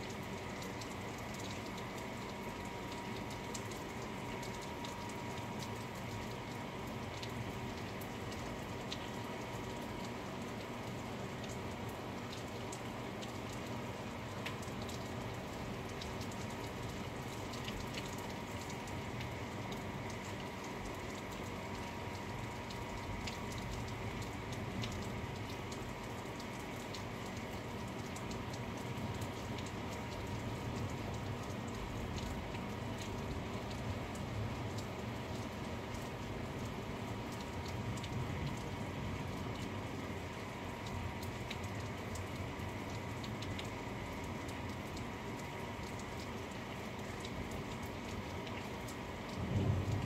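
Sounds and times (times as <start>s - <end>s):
rain falling: 0.0s - 50.0s
raindrops ticking on a surface: 0.0s - 50.0s.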